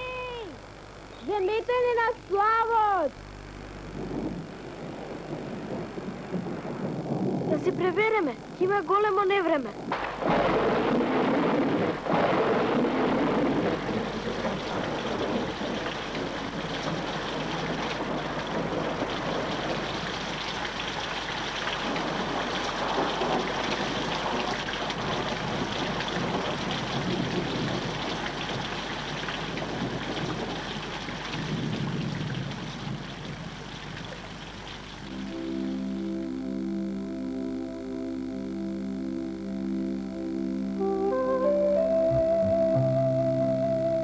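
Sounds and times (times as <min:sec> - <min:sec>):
heavy rain hissing: 0:00.0 - 0:44.0.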